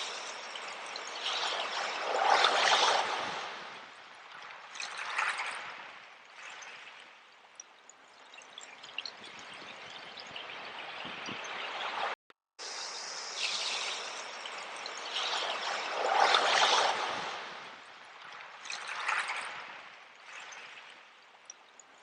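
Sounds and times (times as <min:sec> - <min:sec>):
sea waves washing in: 0:00.0 - 0:07.3, 0:10.4 - 0:21.2.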